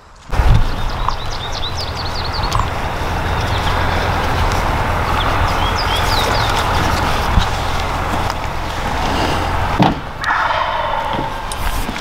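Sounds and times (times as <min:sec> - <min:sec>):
low rumbling noise: 0:00.3 - 0:12.0
songbirds chirping: 0:00.3 - 0:12.0.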